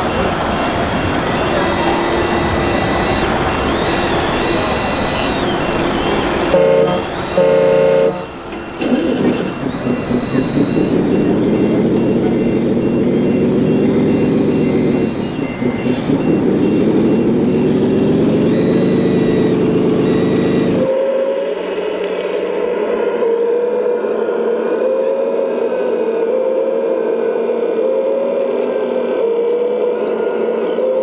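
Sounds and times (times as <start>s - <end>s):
toy motors whining: 0.0s - 31.0s
toy vehicle horn toots: 0.0s - 31.0s.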